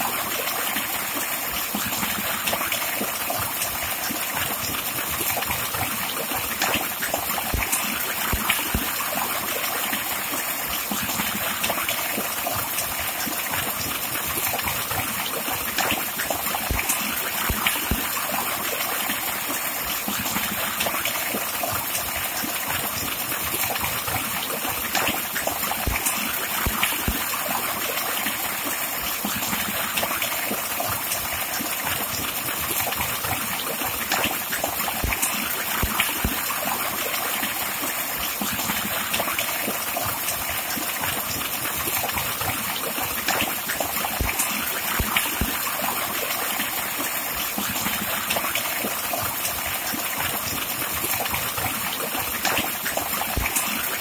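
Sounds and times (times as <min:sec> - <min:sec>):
water pouring into stone pool: 0:00.0 - 0:54.0.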